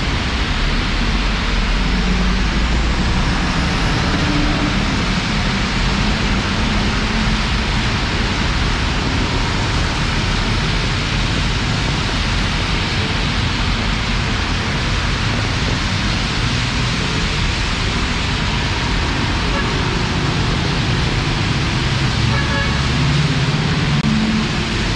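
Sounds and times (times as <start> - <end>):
low rumble: 0.0 - 22.2
heavy rain pouring: 0.0 - 24.9.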